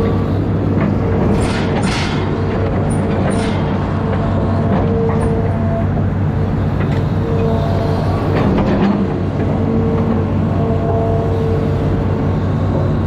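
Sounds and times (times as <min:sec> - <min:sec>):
high whine: 0:00.0 - 0:12.6
diesel engine running: 0:00.0 - 0:13.0.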